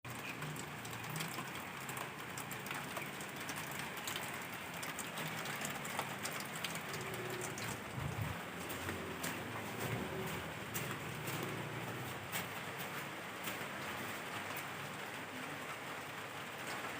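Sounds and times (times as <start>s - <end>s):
rain pattering on a surface: 0.0s - 16.9s.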